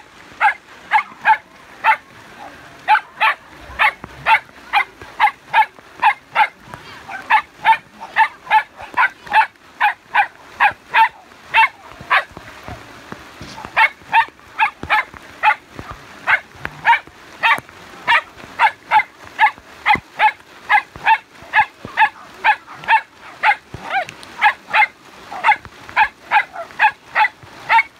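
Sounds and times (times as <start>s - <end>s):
dog barking: 0.4s - 12.3s, 13.5s - 15.6s, 16.2s - 27.9s.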